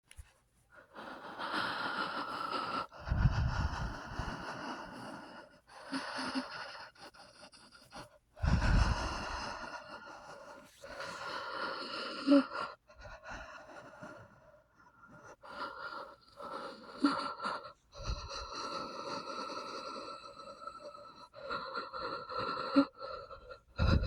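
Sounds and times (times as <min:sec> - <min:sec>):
person breathing heavily: 0:00.8 - 0:24.0.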